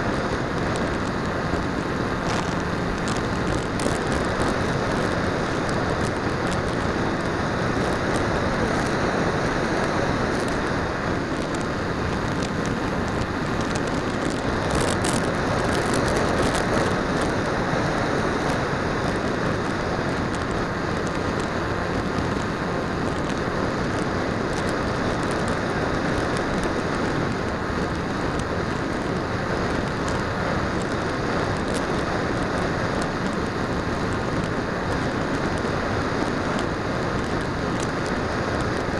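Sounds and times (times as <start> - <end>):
faint crackles: 0.0 - 38.9
wind rush: 0.0 - 38.9.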